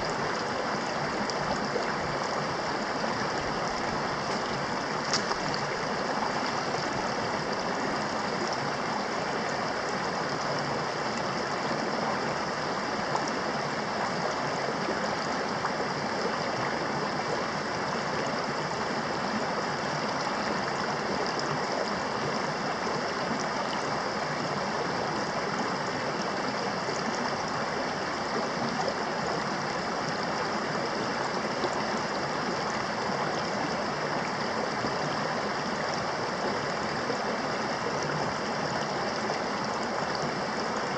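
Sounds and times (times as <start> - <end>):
creek water flowing over stones: 0.0 - 40.9.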